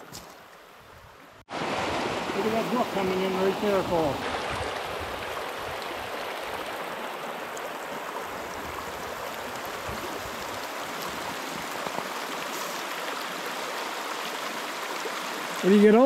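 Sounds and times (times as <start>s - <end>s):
small stream flowing: 0.0s - 16.0s.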